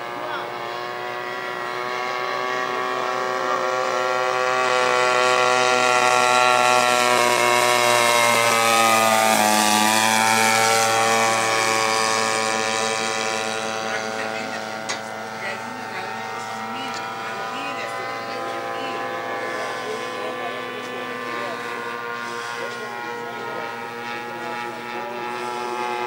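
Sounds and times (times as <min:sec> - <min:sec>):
model airplane engine flying past: 0:00.0 - 0:26.0.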